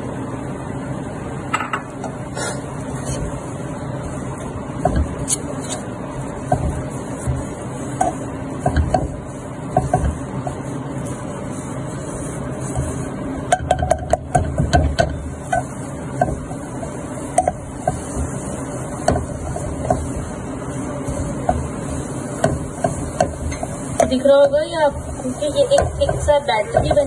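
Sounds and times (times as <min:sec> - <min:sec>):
whisk stirring in pan: 0:02.6 - 0:27.0
whisk clicking against pan: 0:04.8 - 0:27.0.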